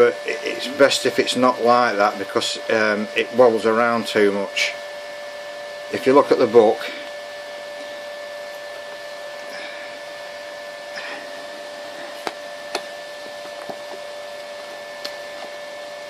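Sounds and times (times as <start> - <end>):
constant high whine: 0.0 - 16.0
mechanical hum and hiss: 0.0 - 16.0.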